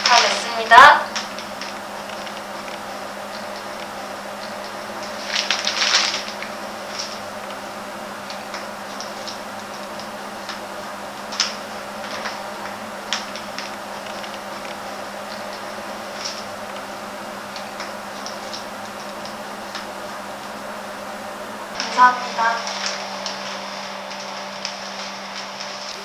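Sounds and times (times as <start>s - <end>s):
paper wrapping crinkling: 0.0s - 19.9s, 21.8s - 26.0s
faint steady hum: 0.0s - 26.0s.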